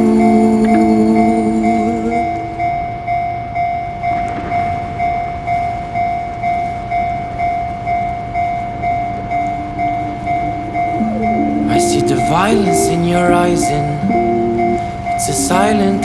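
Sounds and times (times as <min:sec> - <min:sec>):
level-crossing warning bell: 0:00.0 - 0:16.0
passing tram rumble: 0:00.0 - 0:16.0.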